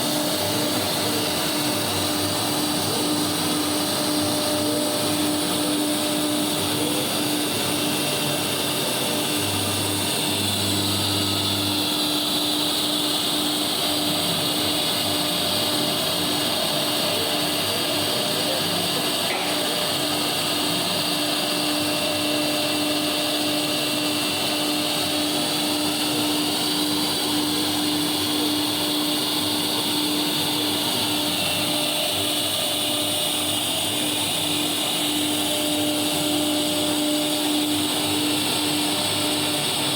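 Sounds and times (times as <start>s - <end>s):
engraving machine motor hum: 0.0s - 39.9s
vacuum cleaner running: 0.0s - 39.9s.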